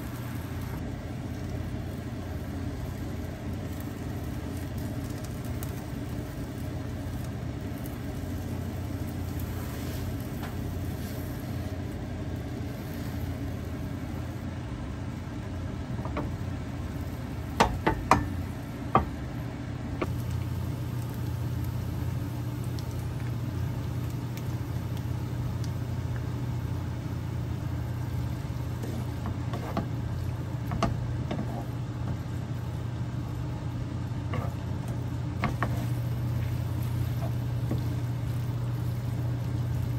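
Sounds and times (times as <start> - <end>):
egg sizzling in pan: 0.0 - 39.9
low hum: 0.0 - 39.9.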